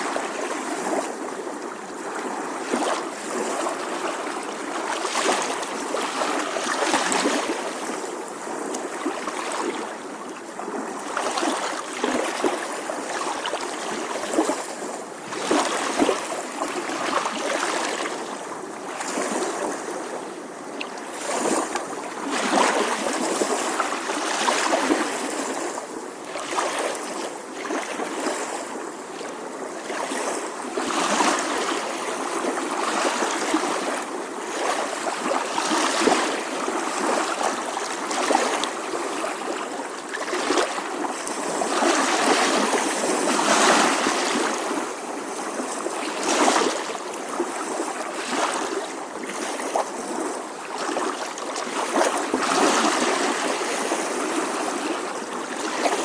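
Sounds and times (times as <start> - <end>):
small ocean waves lapping: 0.0 - 56.0.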